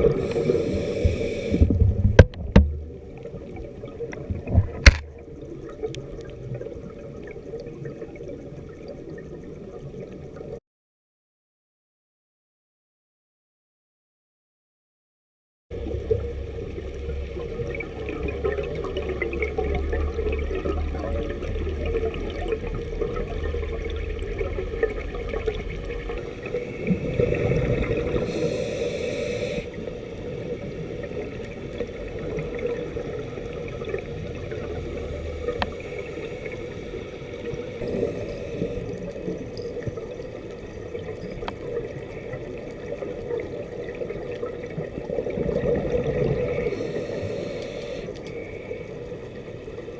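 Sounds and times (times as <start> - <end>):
muffled underwater water rush: 0.0 - 10.6, 15.7 - 49.9.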